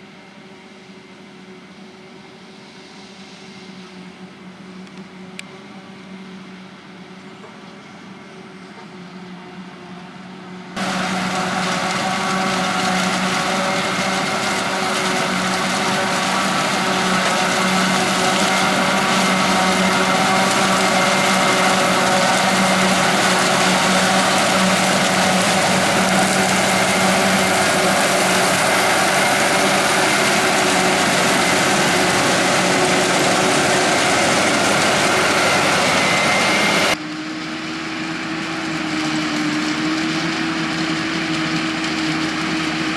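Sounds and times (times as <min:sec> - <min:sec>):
heavy farm machinery engine hum: 0:00.2 - 0:42.9.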